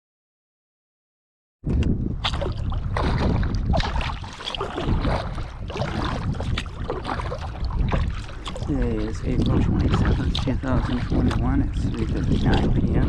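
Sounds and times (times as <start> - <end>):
wind on microphone: 1.6 - 13.0
paddle splashing in water: 2.2 - 13.0.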